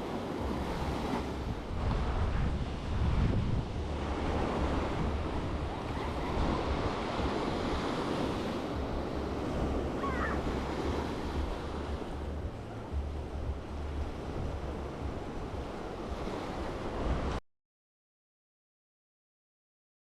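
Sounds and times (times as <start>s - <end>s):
surf washing onto beach: 0.0s - 17.4s
wind buffeting microphone: 0.0s - 17.4s.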